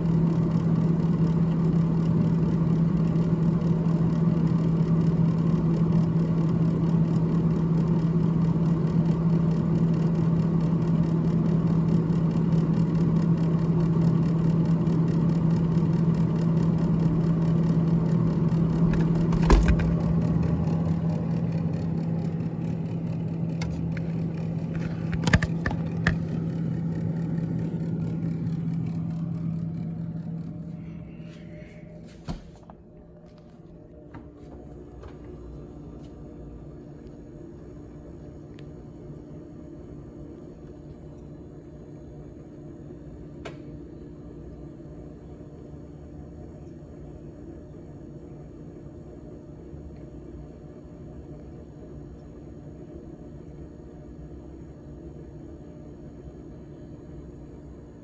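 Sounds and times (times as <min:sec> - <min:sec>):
freezer fan humming: 0:00.0 - 0:58.0.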